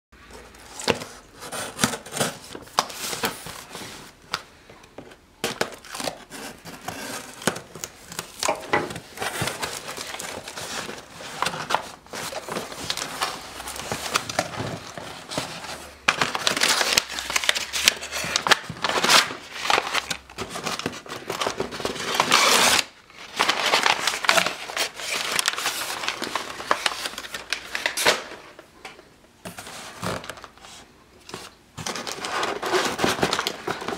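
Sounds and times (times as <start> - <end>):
packaging crinkling and tearing: 5.4 - 28.5, 29.5 - 33.9.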